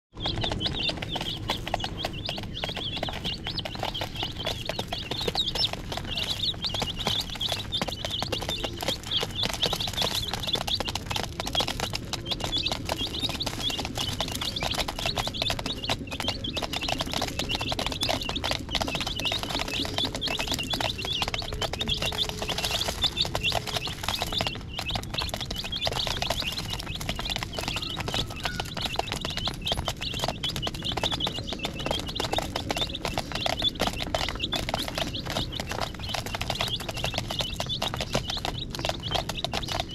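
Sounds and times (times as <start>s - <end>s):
beaks tapping plastic dish: 0.1s - 39.9s
chicks peeping: 0.1s - 39.9s.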